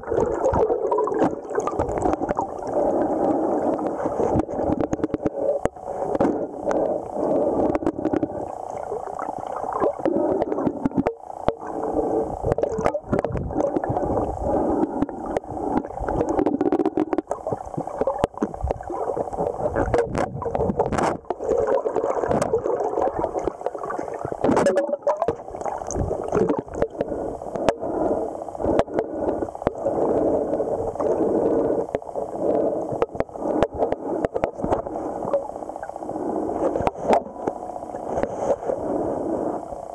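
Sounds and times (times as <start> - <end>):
muffled underwater stream gurgling: 0.0 - 39.9.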